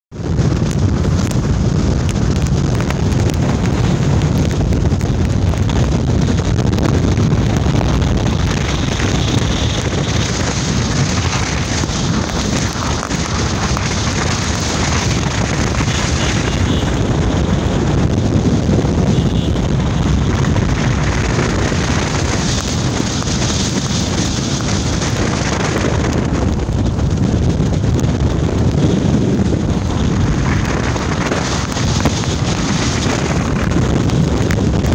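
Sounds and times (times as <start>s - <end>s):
car road noise: 0.1s - 34.9s
wind buffeting microphone: 0.1s - 34.9s.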